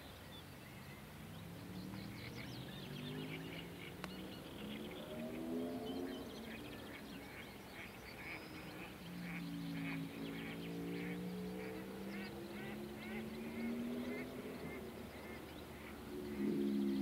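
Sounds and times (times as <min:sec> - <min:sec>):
low steady drone: 0:00.9 - 0:17.0
frogs calling: 0:01.9 - 0:17.0.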